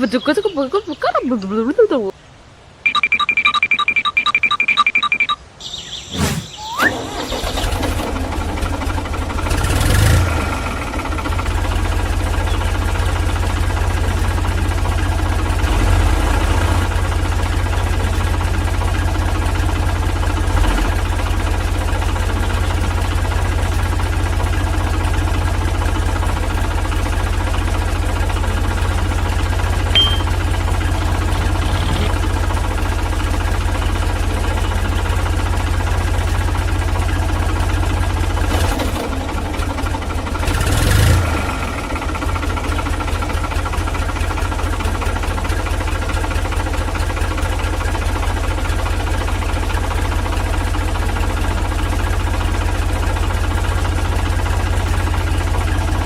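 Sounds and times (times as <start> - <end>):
small diesel engine idling: 6.8 - 56.0.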